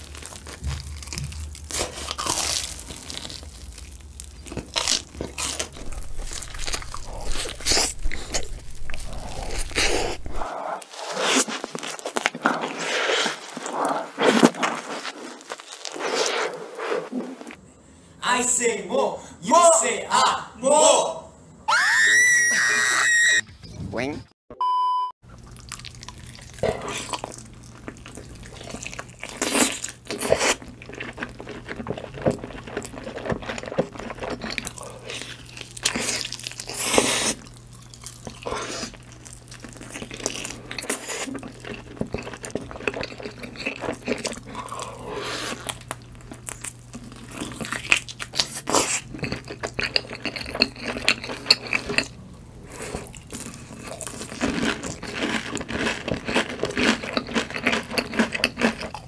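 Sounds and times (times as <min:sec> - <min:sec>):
person chewing with wet mouth sounds: 0:00.0 - 0:17.6, 0:25.3 - 0:59.0.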